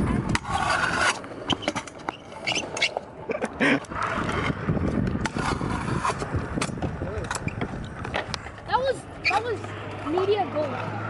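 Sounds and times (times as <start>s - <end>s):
scooter grinding on concrete: 0.0s - 11.0s.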